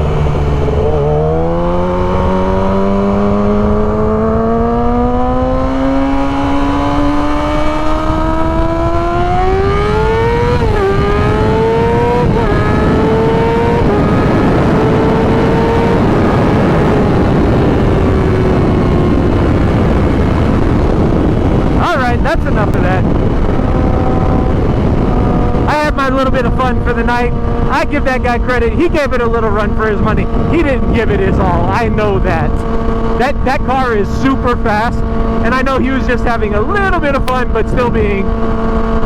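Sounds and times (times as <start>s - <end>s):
motorcycle engine revving: 0.0s - 39.0s
wind rushing: 0.0s - 39.0s.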